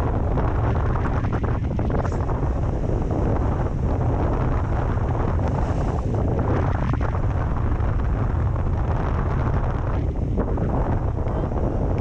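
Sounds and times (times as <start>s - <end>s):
strong wind on microphone: 0.0s - 12.0s
sea surf: 0.1s - 11.9s.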